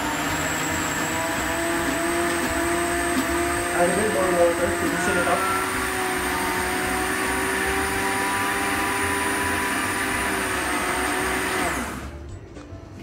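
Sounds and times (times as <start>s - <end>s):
blender running and winding down: 0.0s - 12.2s.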